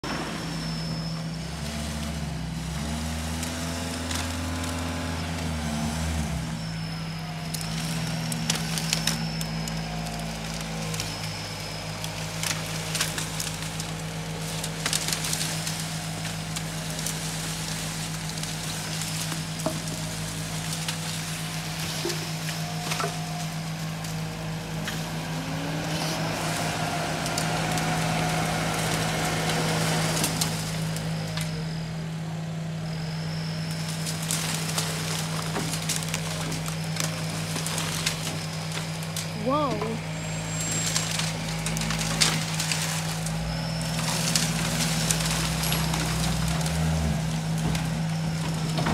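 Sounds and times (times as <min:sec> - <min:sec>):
diesel engines revving: 0:00.0 - 0:48.9.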